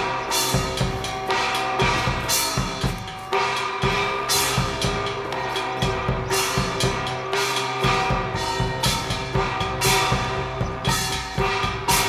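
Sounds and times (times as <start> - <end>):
drum strikes: 0.0 - 12.0.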